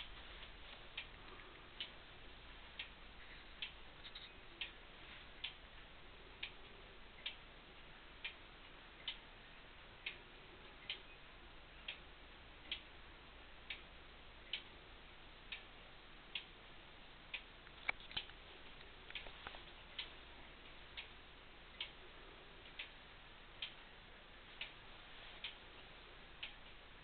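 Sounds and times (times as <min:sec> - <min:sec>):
clock ticking: 0:00.0 - 0:27.0.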